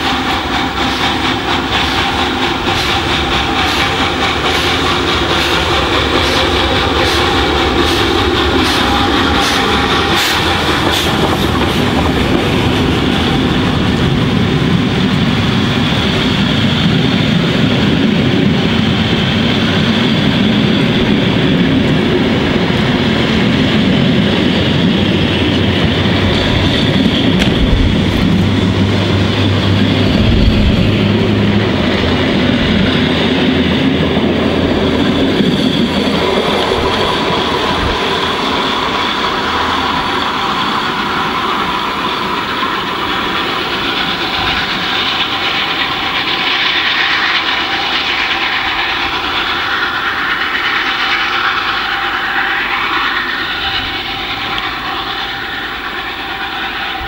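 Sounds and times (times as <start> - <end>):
steam locomotive chuffing: 0.0 - 57.0
train wheels clattering on rails: 0.0 - 57.0.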